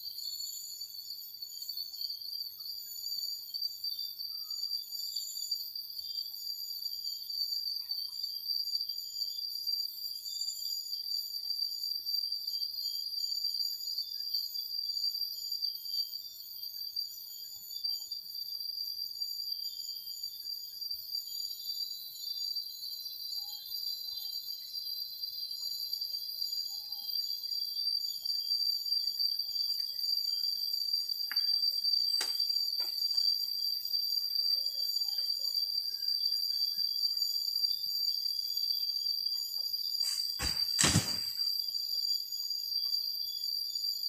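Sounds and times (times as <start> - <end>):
forest insects trilling: 0.0 - 44.0.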